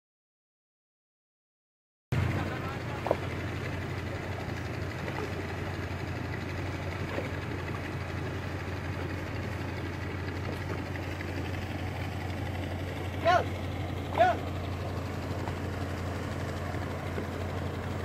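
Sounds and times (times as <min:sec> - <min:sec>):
engine droning: 0:02.1 - 0:18.0.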